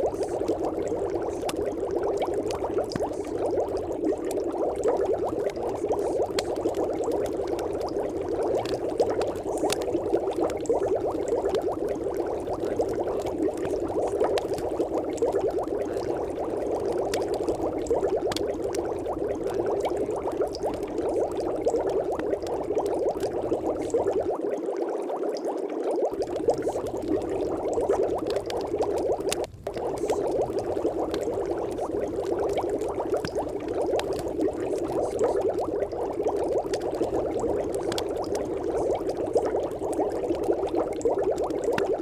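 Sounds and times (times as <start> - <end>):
bubbling water-like noise: 0.0 - 42.0.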